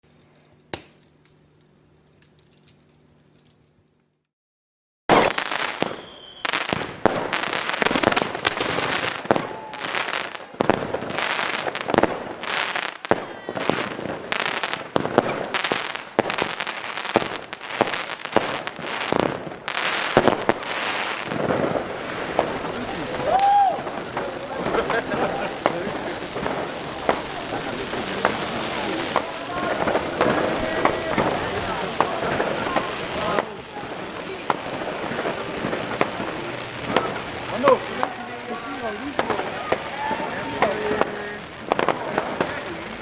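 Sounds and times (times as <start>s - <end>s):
fireworks fountain hissing and crackling: 5.1s - 43.0s.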